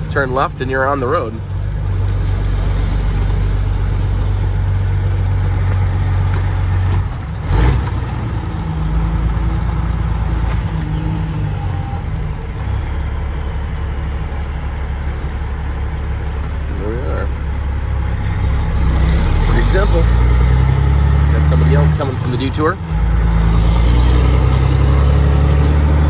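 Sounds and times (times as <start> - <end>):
truck diesel engine pulling: 0.0 - 26.0.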